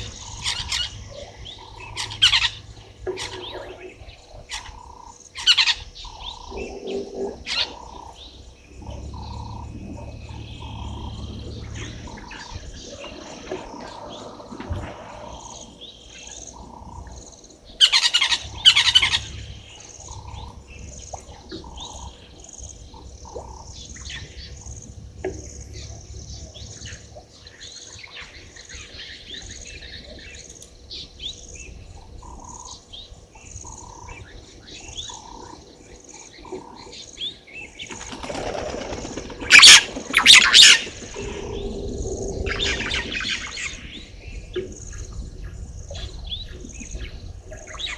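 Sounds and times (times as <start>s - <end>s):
birds chirping: 0.0s - 47.9s
loud bird calls: 0.0s - 47.9s
repeated soft bird notes: 0.0s - 47.9s.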